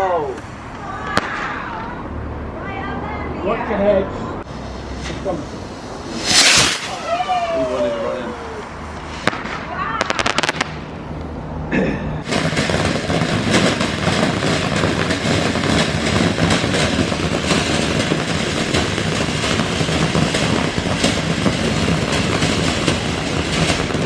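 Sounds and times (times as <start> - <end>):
firework crackling and hissing: 0.0 - 2.1, 4.3 - 11.3, 12.2 - 24.0.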